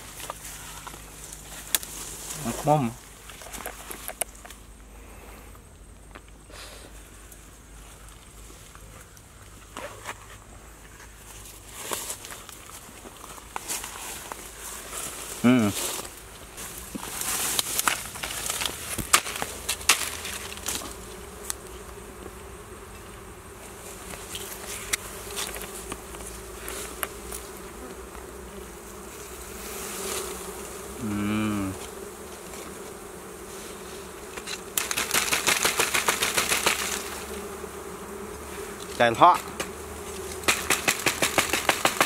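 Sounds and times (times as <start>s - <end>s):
honeybees buzzing: 0.0s - 42.0s.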